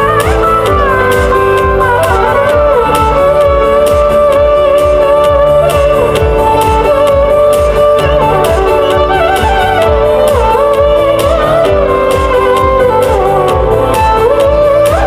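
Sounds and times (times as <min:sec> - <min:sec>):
instrumental music with low beat: 0:00.0 - 0:15.0
sliding melody: 0:00.0 - 0:15.0.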